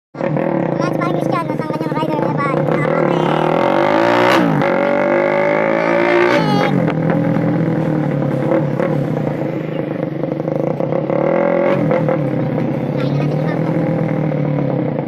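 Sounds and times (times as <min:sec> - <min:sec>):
motorcycle engine revving and idling: 0:00.2 - 0:15.0.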